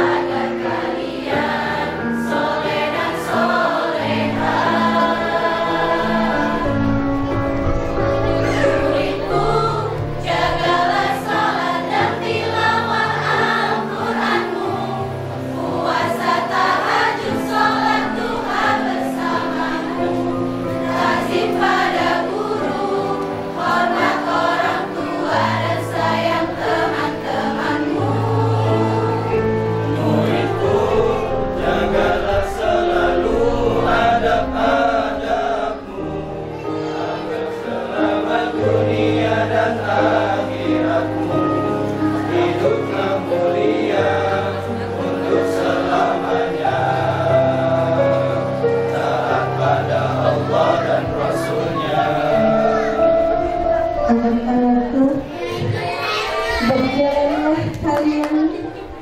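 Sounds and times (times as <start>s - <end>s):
mixed choir singing: 0.0s - 57.8s.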